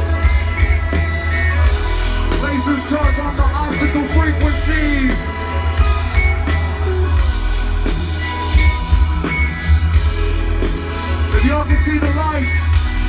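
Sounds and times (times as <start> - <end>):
electronic music with heavy bass: 0.0 - 13.0.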